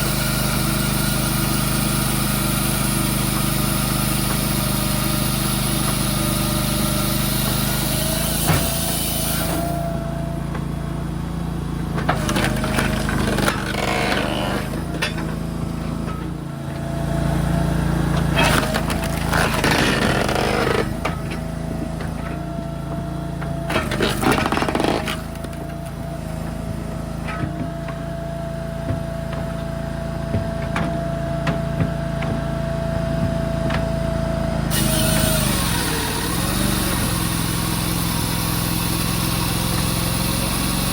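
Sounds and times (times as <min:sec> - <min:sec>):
engine running with whine: 0:00.0 - 0:40.9.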